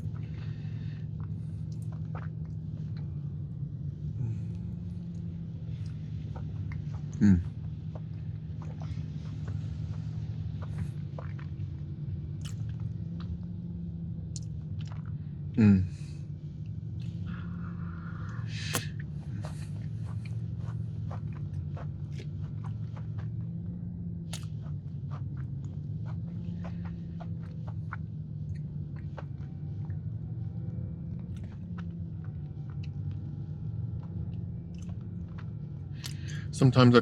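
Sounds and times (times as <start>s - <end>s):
wet chewing and mouth clicks: 0.0s - 3.4s, 5.0s - 13.6s, 14.2s - 15.3s, 16.6s - 36.5s
steady low hum: 0.0s - 37.0s.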